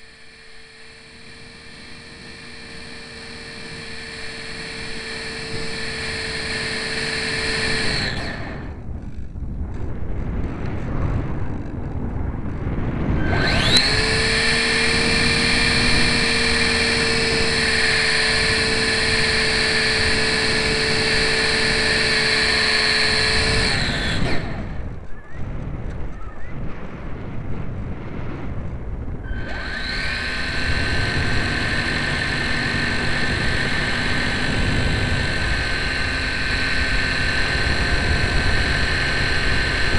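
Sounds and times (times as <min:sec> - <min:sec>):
electric motor and propeller whine: 0:00.0 - 0:39.9
rushing air: 0:00.0 - 0:39.9.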